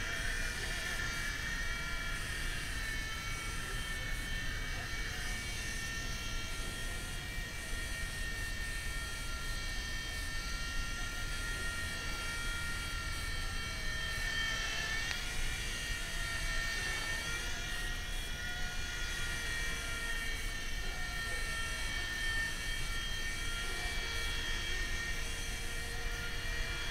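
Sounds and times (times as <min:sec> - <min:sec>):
toy helicopter motor whine: 0:00.0 - 0:26.9.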